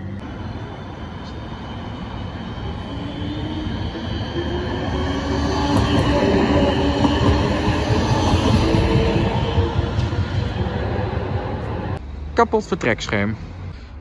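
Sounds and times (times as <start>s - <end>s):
tram drive whine: 0.0s - 14.0s
tram rumble and wheel noise: 0.0s - 14.0s.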